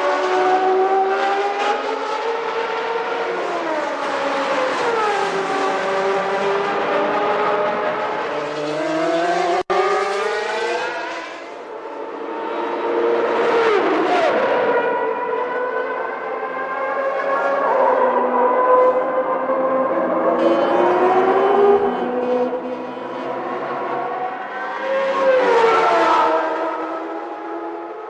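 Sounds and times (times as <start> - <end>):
racing car engine at high revs: 0.0 - 28.0.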